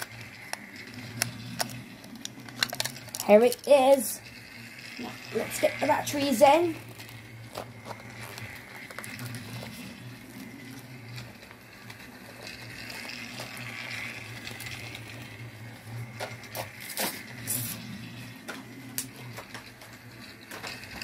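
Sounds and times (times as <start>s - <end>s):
toy electric motor humming: 0.0s - 21.0s.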